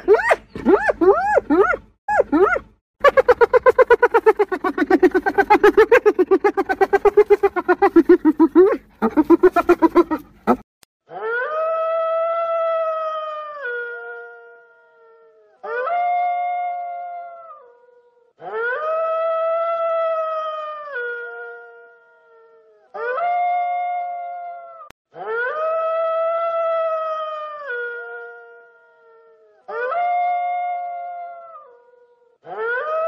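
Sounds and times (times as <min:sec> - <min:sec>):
wolf howling: 0:00.0 - 0:31.8.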